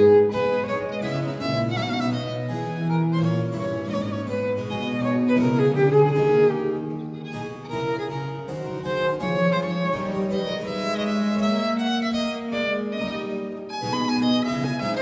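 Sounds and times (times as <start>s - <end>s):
cello bass line: 0.0s - 15.0s
harpsichord: 0.0s - 15.0s
violins playing: 0.0s - 15.0s.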